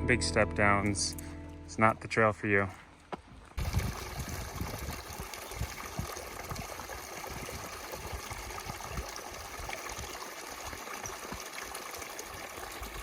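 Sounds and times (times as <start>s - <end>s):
flowing water rushing: 1.8s - 13.0s.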